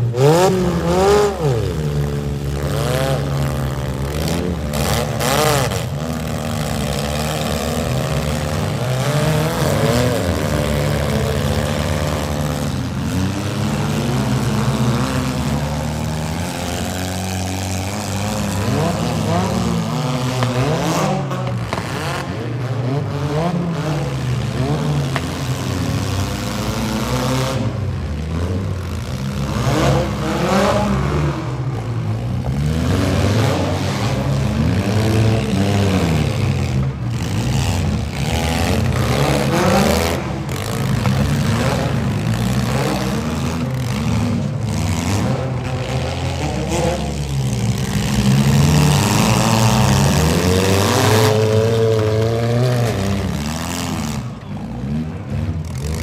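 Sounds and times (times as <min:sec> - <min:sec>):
minivan engines revving hard: 0:00.0 - 0:56.0.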